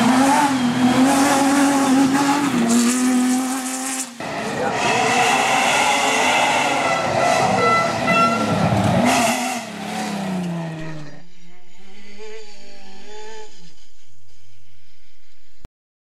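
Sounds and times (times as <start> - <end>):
rally car engine passing: 0.0 - 14.2
rally car engine revving: 0.0 - 14.5.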